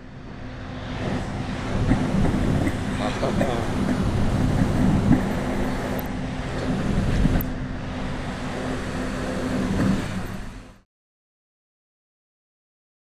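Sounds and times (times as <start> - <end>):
wind buffeting microphone: 0.0 - 10.7
low hum of ship machinery: 0.0 - 10.8.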